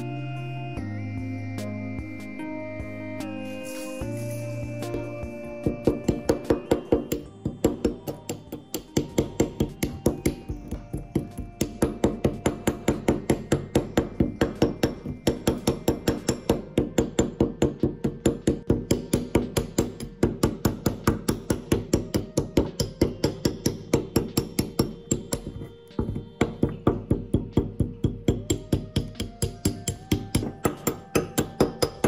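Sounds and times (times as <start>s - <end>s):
hammer tapping on metal vise: 4.9s - 32.0s.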